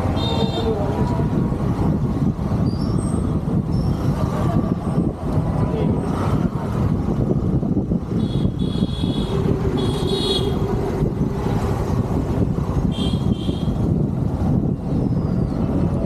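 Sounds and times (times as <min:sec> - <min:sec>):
motorcycle engine rumbling: 0:00.0 - 0:16.0
road and wind noise: 0:00.0 - 0:16.0.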